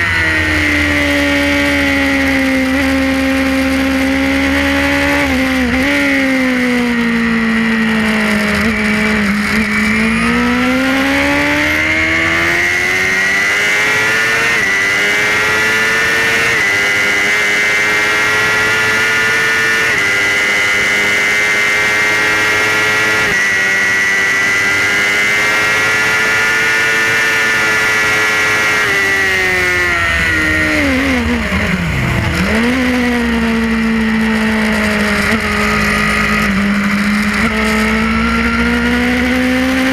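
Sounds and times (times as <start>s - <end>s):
motorcycle engine at racing speed: 0.0s - 39.9s.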